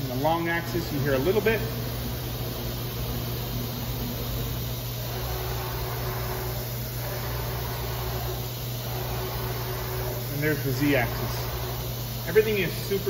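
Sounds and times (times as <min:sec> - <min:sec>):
cnc router gantry moving smoothly: 0:00.0 - 0:13.0
steady low hum: 0:00.0 - 0:13.0.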